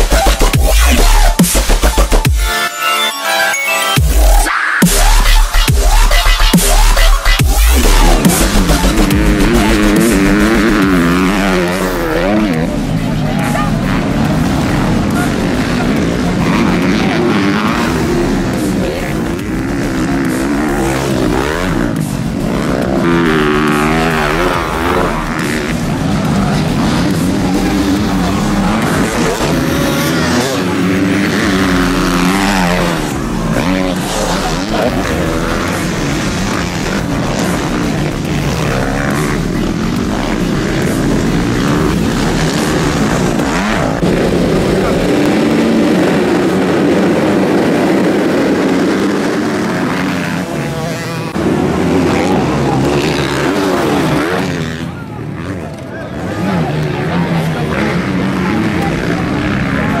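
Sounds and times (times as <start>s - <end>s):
dirt bike engines revving: 0.0s - 2.5s, 4.0s - 60.0s.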